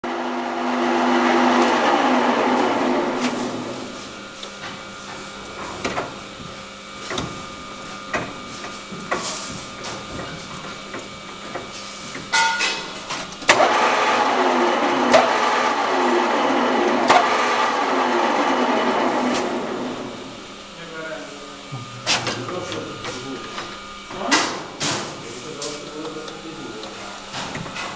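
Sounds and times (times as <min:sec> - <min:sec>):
lathe running: 0:00.0 - 0:09.1, 0:09.7 - 0:24.3, 0:25.2 - 0:27.9
faint machine hum: 0:00.0 - 0:27.9.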